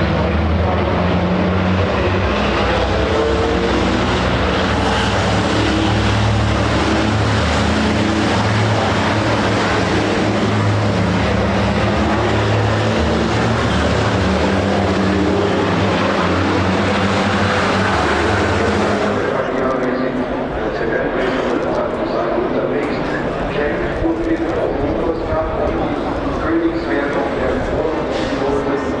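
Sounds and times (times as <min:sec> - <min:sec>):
truck diesel engines droning: 0:00.0 - 0:29.0.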